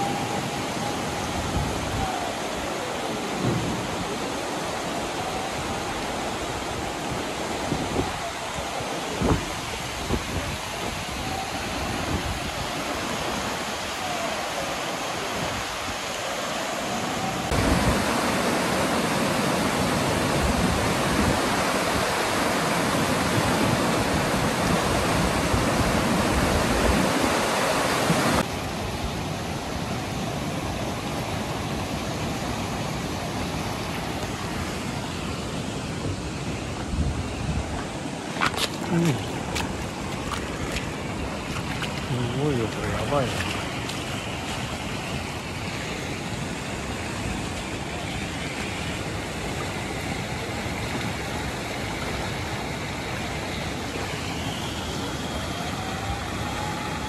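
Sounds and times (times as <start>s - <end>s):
rushing floodwater: 0.0s - 57.0s.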